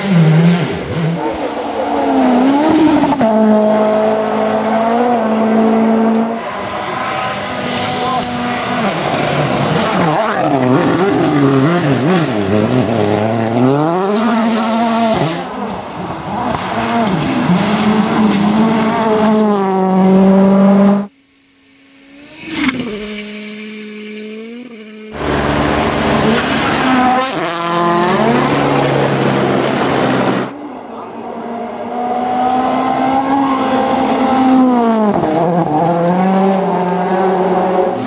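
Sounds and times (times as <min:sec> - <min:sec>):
distant car: 0:00.0 - 0:38.0
rally cars at full throttle: 0:00.0 - 0:38.0.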